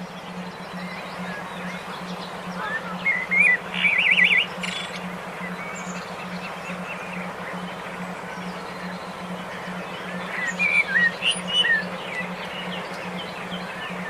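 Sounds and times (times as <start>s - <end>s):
birds chirping and whistling: 0.0s - 14.0s
evenly pulsing low hum: 0.0s - 14.0s
rapid warbling bird trill: 0.0s - 14.0s.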